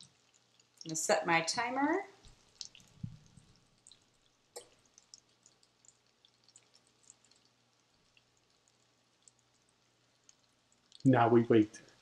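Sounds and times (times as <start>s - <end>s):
meat searing in oil: 0.0s - 11.1s.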